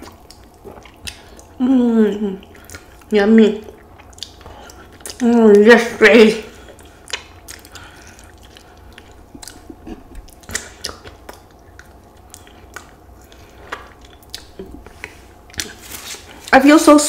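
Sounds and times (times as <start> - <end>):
chewing crispy chicken: 0.0 - 1.6, 2.4 - 5.7, 6.4 - 16.4
wet mouth sounds: 0.0 - 5.4, 6.5 - 16.2.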